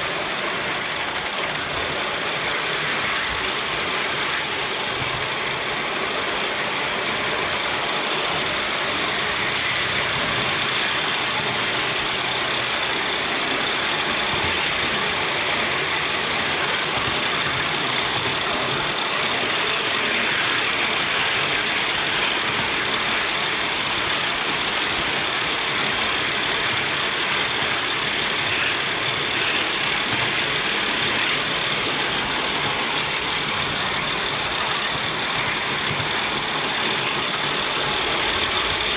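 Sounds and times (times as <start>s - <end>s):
steam locomotive exhaust: 0.0s - 38.9s
wheels on rails: 0.0s - 38.9s.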